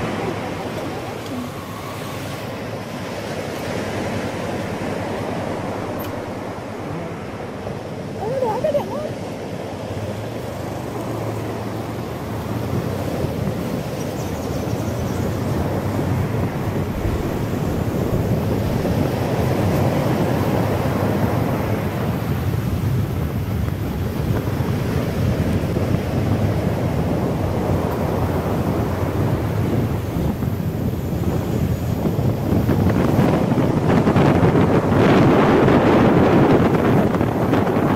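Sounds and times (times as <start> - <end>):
road noise: 0.0 - 37.9
wind rushing over microphone: 0.0 - 37.9.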